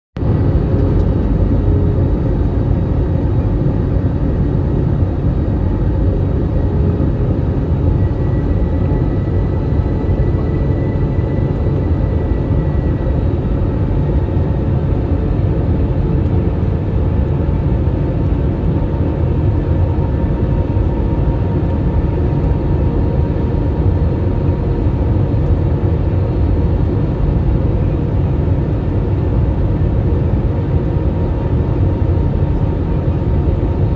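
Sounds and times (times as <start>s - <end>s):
jet engines on approach: 0.2s - 33.9s.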